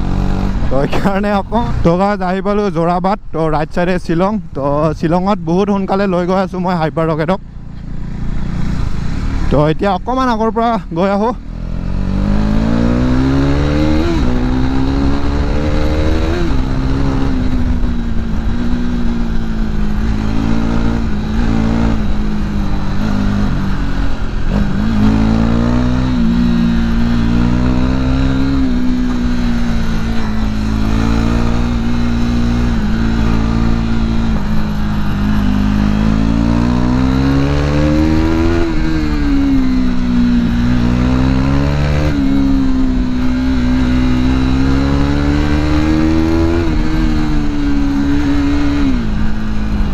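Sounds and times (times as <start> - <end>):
motorcycle engine revving: 0.0 - 2.2, 5.9 - 49.9.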